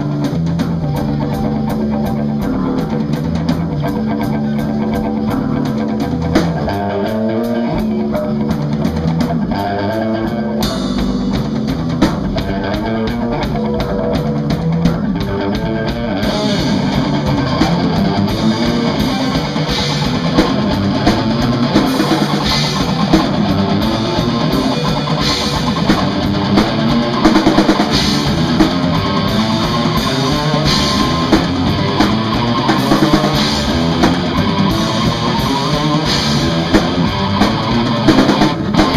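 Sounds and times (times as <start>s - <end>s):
drum kit with cymbals: 0.0s - 38.9s
electric guitar: 0.0s - 38.9s.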